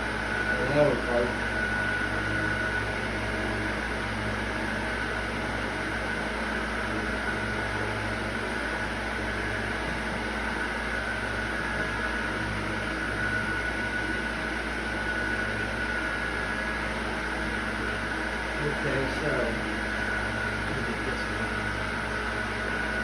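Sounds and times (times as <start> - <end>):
mechanical hum with high whine: 0.0 - 23.0.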